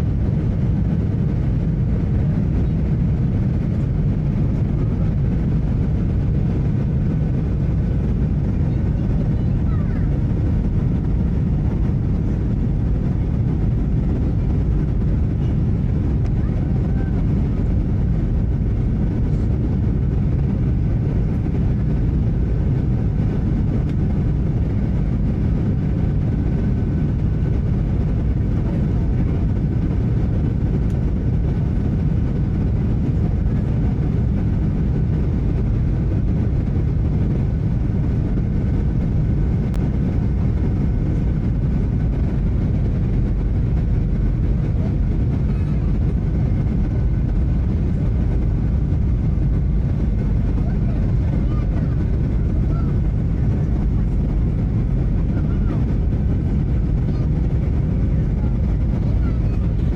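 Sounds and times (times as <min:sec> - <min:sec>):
aircraft cabin rumble: 0:00.0 - 0:59.9.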